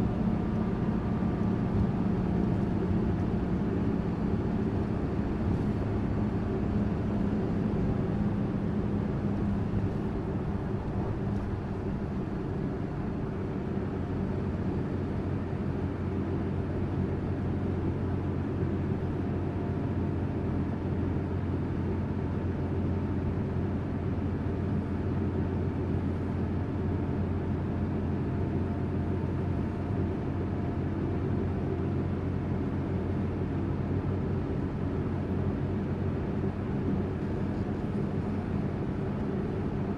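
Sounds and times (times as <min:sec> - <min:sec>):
bus engine running: 0:00.0 - 0:39.9
road noise: 0:00.0 - 0:39.9.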